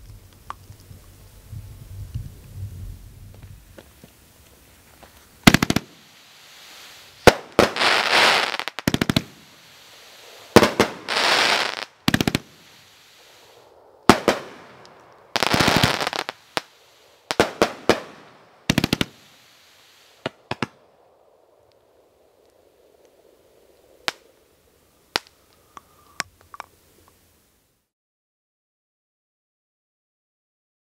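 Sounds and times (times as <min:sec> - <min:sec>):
crackling of bursting stars: 0:00.0 - 0:27.1.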